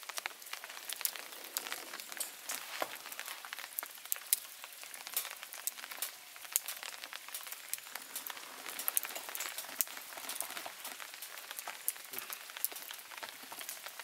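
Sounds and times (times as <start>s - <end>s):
rain falling: 0.0s - 14.0s
raindrops tapping on a surface: 0.0s - 14.0s.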